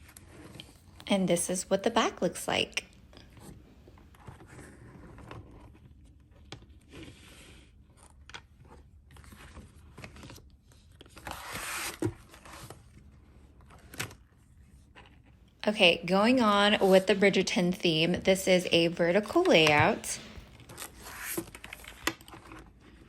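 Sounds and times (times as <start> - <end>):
paper rustling and scraping: 3.4 - 15.3, 16.3 - 23.0.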